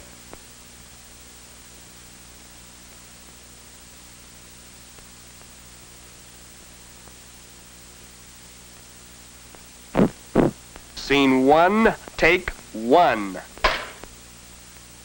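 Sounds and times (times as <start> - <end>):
electrical mains hum: 0.0 - 15.0
noise floor hiss: 0.0 - 15.0.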